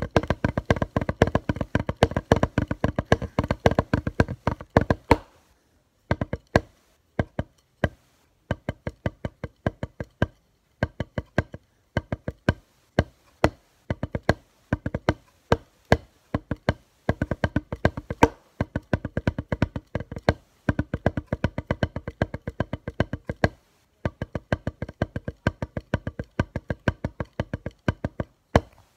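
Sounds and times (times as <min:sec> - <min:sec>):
drumstick taps on flat surface: 0:00.0 - 0:05.3, 0:06.1 - 0:28.8.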